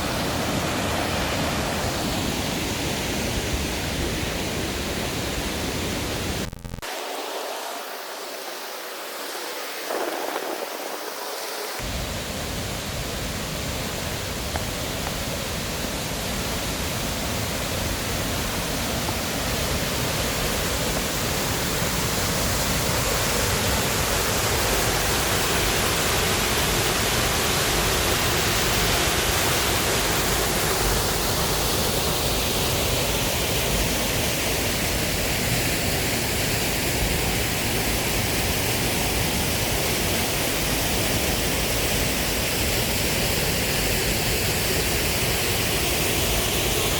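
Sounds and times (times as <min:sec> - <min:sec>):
waterfall and stream rushing: 0:00.0 - 0:46.9.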